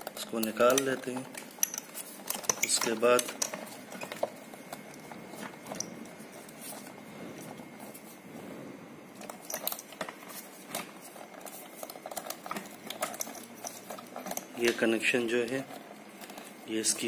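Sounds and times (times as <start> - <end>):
wire rustling: 0.0 - 17.0.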